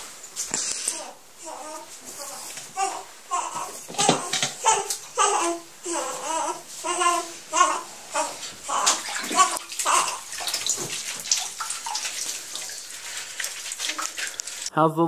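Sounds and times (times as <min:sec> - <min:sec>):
bathwater splashing: 0:00.0 - 0:14.7.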